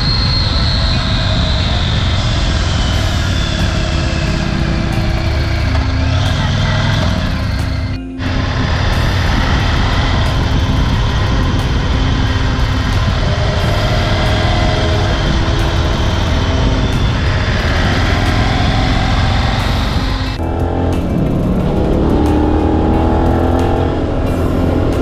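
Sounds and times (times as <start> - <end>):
motorcycle engine running: 0.0 - 25.0
wind rushing: 0.0 - 25.0.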